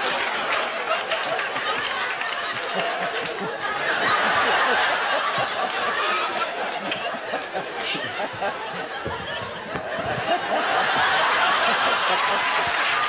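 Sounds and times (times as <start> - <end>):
studio audience laughing: 0.0 - 13.0.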